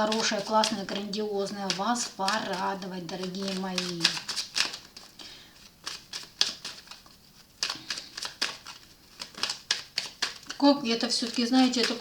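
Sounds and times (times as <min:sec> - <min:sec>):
cards flicking and rustling: 0:00.0 - 0:12.0.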